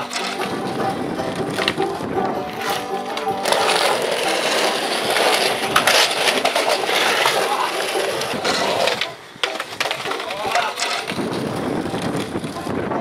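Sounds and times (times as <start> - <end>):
skateboard clacks and scrapes: 0.0 - 13.0
skateboard wheels rolling on concrete: 0.0 - 13.0.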